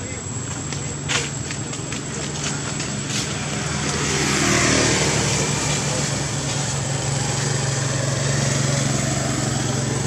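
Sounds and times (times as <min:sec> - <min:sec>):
motor vehicle passing by: 0:01.2 - 0:10.0.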